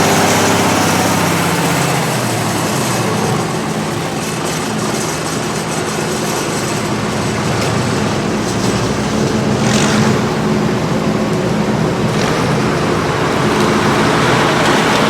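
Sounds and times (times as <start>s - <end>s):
rush of working machinery: 0.0s - 15.0s
tractor diesel engine running: 0.0s - 15.0s.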